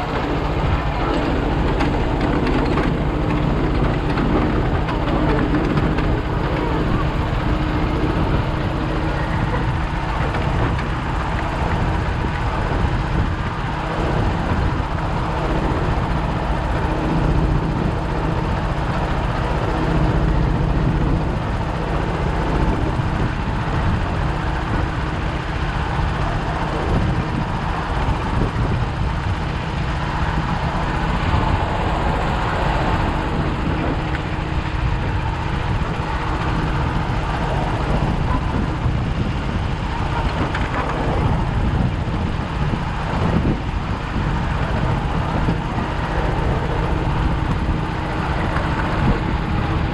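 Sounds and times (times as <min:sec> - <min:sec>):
vehicle rumble with faint hum: 0:00.0 - 0:49.9.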